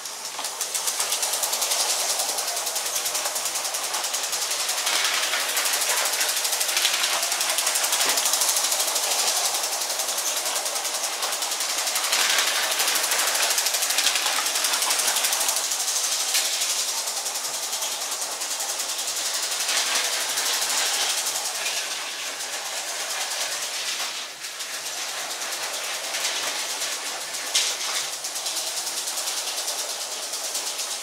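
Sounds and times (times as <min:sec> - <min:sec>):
toy train rattling clicks: 0:00.0 - 0:31.0.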